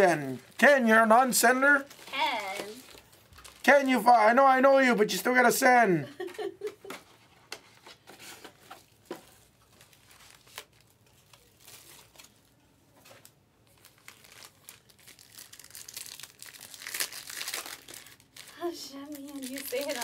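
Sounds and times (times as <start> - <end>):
plastic shrink-wrap crinkling: 0.0 - 4.0, 7.7 - 20.0.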